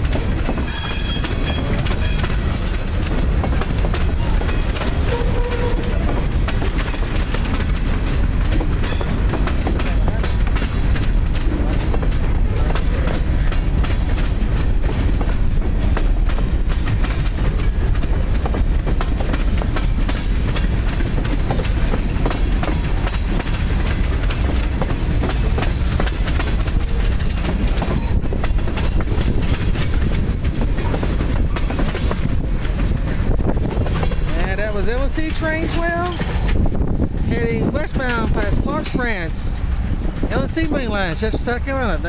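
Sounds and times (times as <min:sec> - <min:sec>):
train wheels rumbling on rails: 0:00.0 - 0:42.0
wheels clacking over rail joints: 0:00.0 - 0:42.0.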